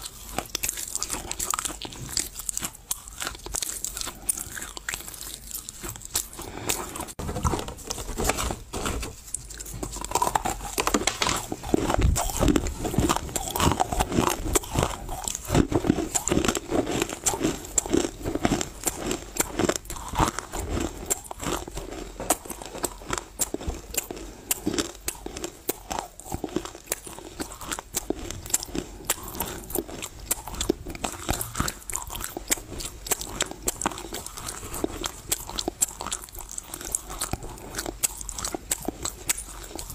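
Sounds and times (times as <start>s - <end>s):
wet crunching of chewing clay: 0.0s - 7.6s, 8.9s - 39.9s.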